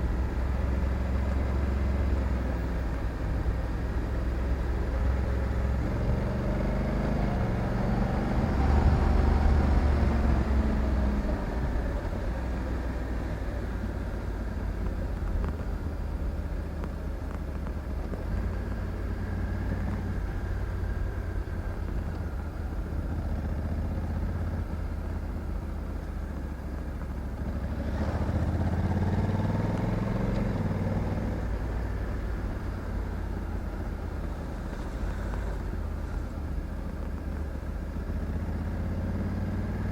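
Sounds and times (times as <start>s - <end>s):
motorcycle engine: 0.0s - 39.9s
road and wind noise: 0.0s - 39.9s.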